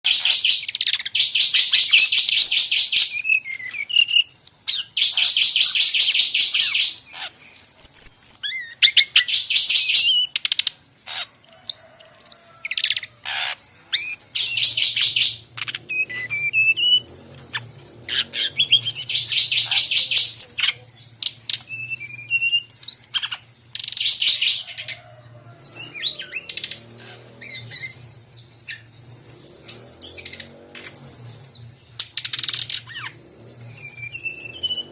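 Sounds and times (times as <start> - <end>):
bird singing buzzy trills: 0.0 - 34.9
other birds calling: 0.0 - 34.9.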